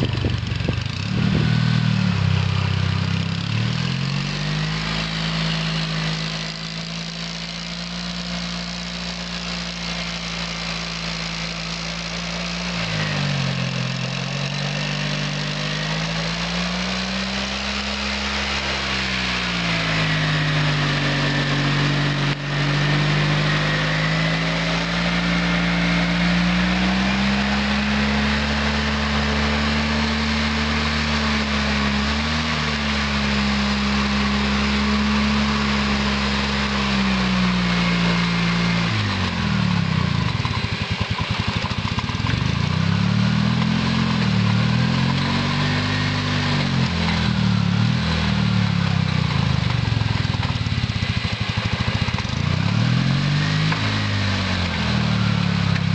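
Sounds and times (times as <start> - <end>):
tractor engine under load: 0.0 - 55.9.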